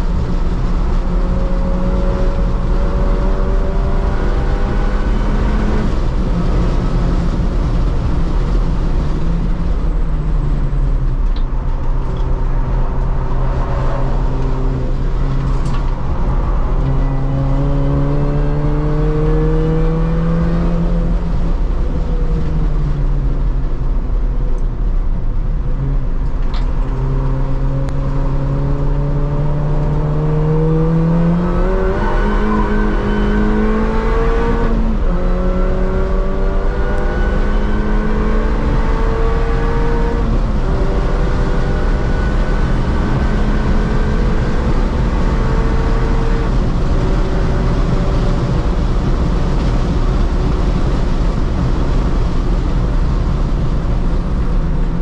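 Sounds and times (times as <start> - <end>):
car engine revving inside cabin: 0.0 - 23.6, 25.7 - 55.0.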